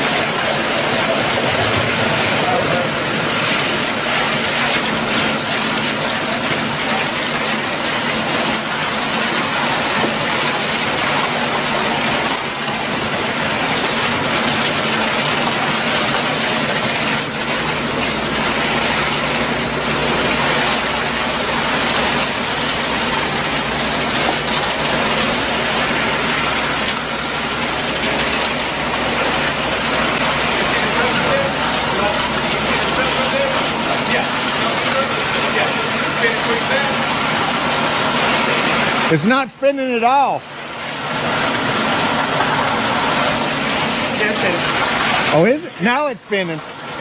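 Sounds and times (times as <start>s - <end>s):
pump truck engine running: 0.0s - 47.0s.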